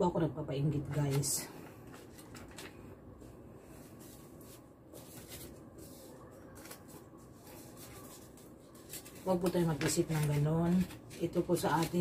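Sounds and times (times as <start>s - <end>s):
paper rustling and crinkling: 0.8s - 12.0s.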